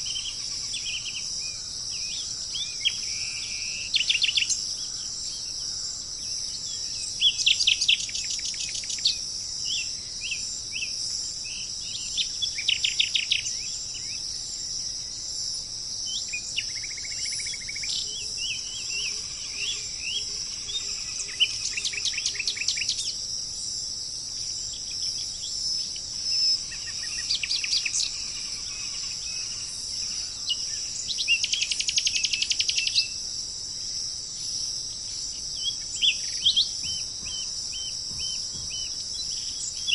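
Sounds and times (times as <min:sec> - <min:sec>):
high insect drone: 0:00.0 - 0:39.9
songbirds chirping: 0:00.0 - 0:39.9.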